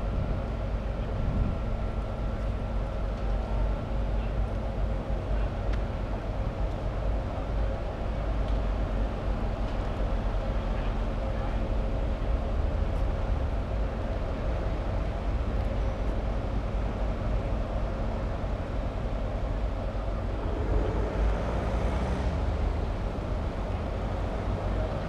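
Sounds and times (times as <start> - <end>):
heavy diesel engine rumbling: 0.0 - 25.0.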